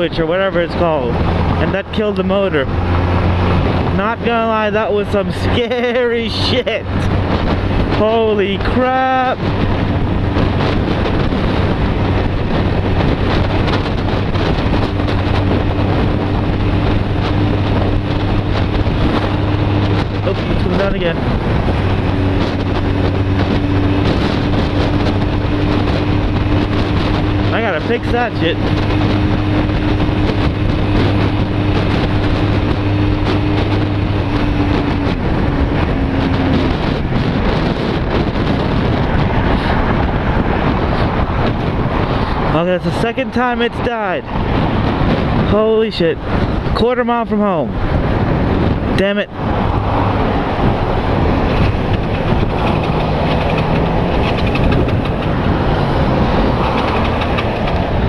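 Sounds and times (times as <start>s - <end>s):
road noise: 0.0s - 58.0s
wind noise on microphone: 0.0s - 58.0s
motorcycle engine running: 1.0s - 42.4s, 47.8s - 58.0s.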